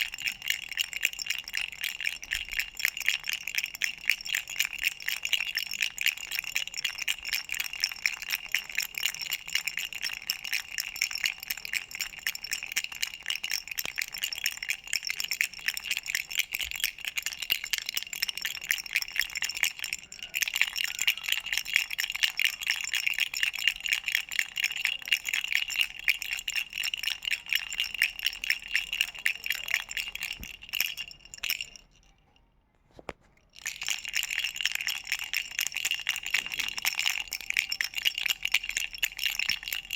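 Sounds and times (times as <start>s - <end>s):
baby rattle jingling: 0.0s - 32.2s, 33.4s - 39.9s.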